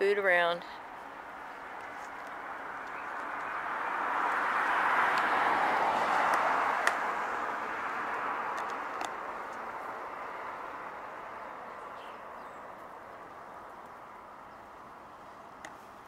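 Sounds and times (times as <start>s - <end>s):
vehicle going by: 1.1s - 15.5s.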